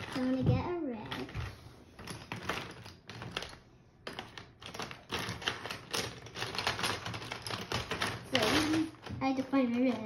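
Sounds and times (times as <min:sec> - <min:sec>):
marker pens clattering: 0:00.0 - 0:10.0.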